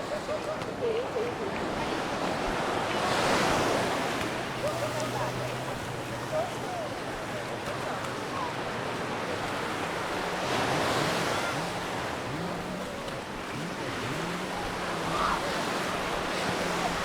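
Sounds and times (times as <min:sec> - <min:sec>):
waves washing onto beach: 0:00.0 - 0:17.0.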